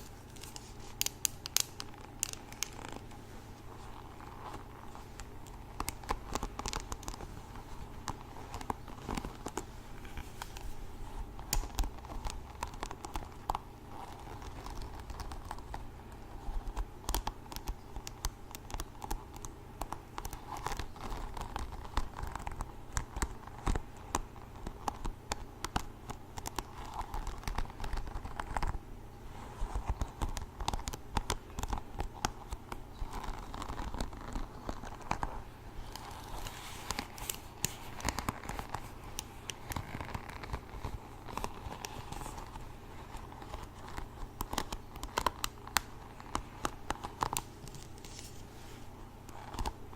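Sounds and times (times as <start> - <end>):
crinkling: 0.0 - 49.9
scratching: 0.0 - 49.9.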